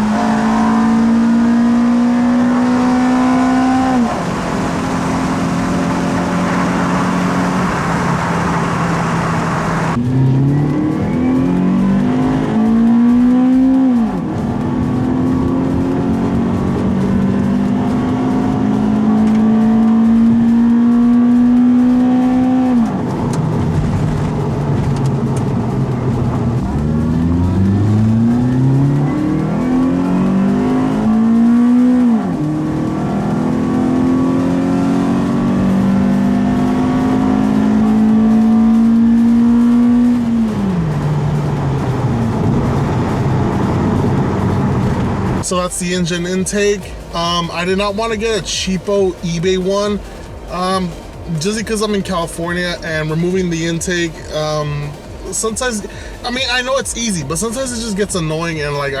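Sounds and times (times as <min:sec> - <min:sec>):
car engine accelerating: 0:00.0 - 0:59.0
rushing noise: 0:00.0 - 0:59.0.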